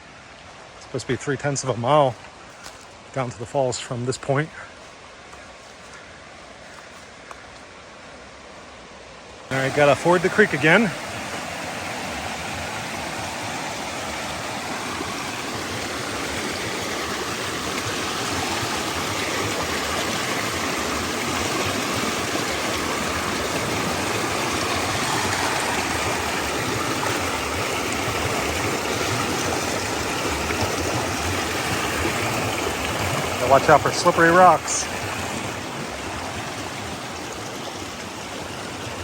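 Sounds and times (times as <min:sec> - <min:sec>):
creek rushing over rocks: 0:00.0 - 0:39.0.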